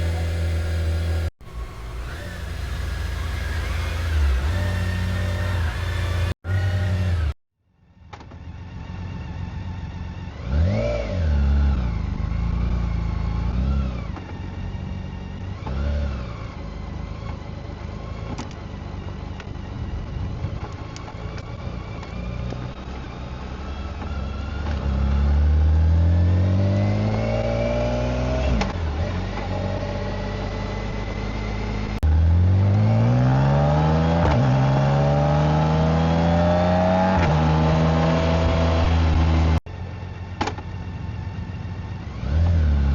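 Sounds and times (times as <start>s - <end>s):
motorcycle engine revving: 0.0s - 7.4s, 8.3s - 42.9s.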